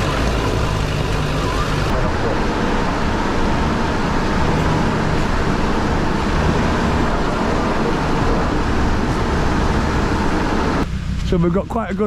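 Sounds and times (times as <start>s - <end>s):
constant rushing noise: 0.0s - 12.0s
vehicle engine running: 0.0s - 12.0s.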